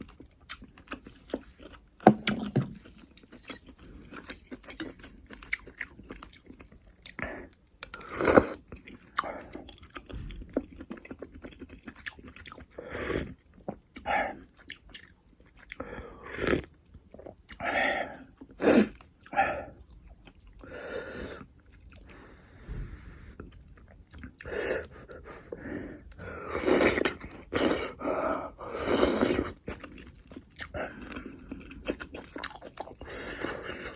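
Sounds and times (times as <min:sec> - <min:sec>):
chewing and biting food: 0:00.0 - 0:15.8, 0:16.5 - 0:20.7, 0:21.4 - 0:22.3, 0:23.4 - 0:33.9.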